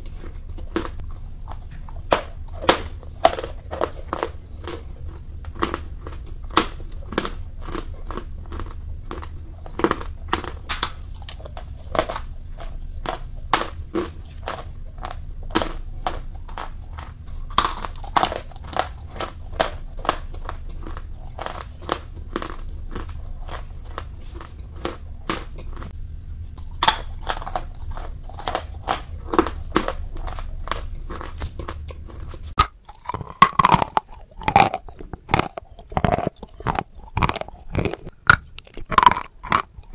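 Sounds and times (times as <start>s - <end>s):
crunching and chewing chalk: 0.0s - 39.9s
steady low hum: 0.0s - 39.9s.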